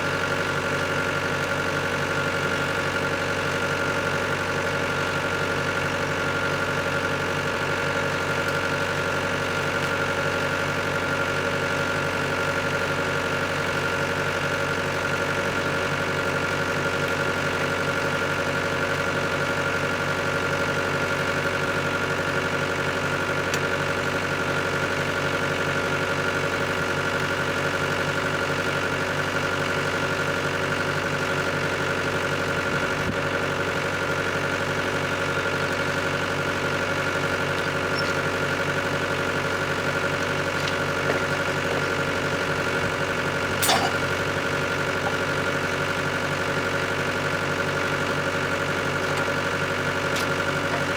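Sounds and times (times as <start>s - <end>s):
sawmill engine running steadily: 0.0s - 50.9s.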